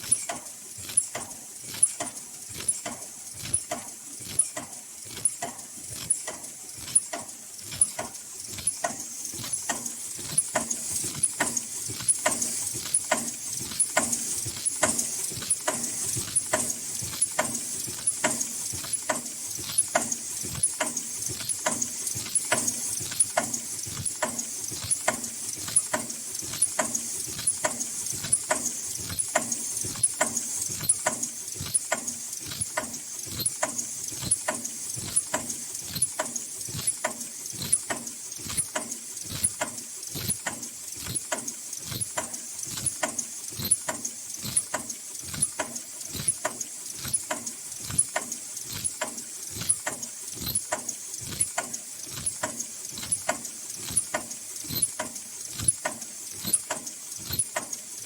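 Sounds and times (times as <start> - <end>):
machine clacking: 0.0 - 58.0.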